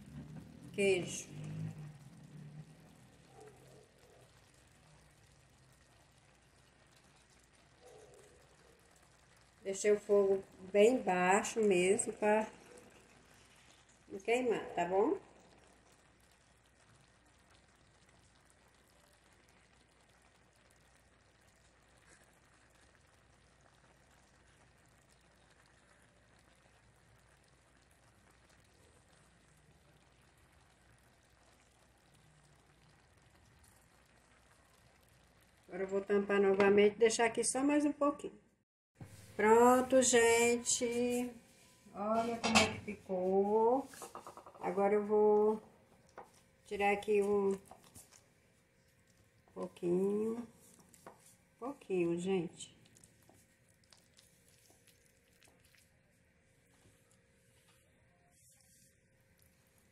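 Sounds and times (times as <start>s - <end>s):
pan simmering hiss: 0.0s - 36.8s, 39.0s - 59.9s.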